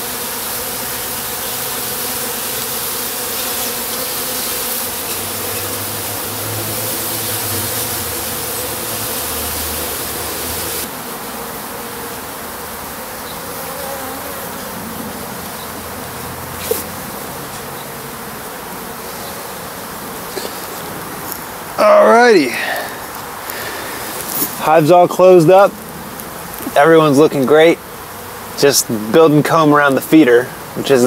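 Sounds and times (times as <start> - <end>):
honeybees buzzing: 0.0 - 31.0.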